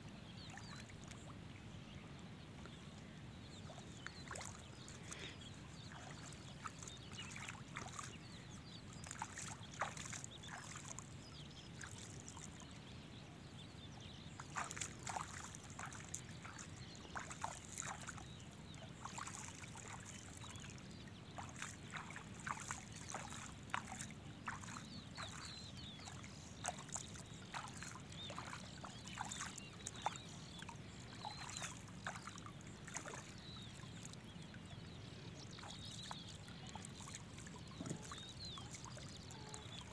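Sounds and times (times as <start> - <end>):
water sloshing and splashing: 0.3 - 1.3, 2.6 - 39.9
faint bird chirps: 0.4 - 39.9.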